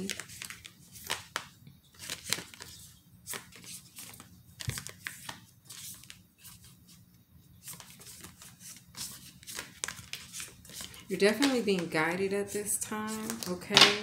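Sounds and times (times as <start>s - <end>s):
cards rustling and sliding: 0.0s - 7.0s, 7.6s - 14.0s.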